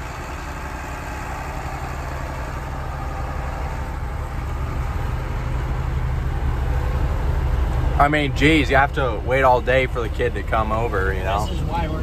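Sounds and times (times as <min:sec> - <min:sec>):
tractor diesel engine rumble: 0:00.0 - 0:12.0.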